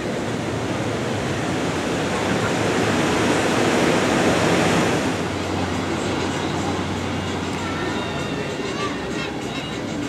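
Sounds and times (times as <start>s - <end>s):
ocean surf on sandy beach: 0.0s - 10.0s.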